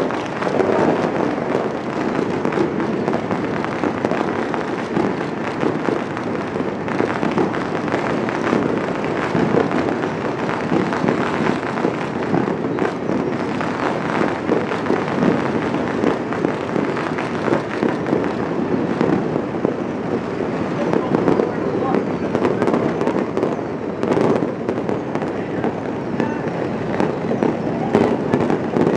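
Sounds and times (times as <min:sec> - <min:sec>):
fireworks popping and banging: 0:00.0 - 0:28.9.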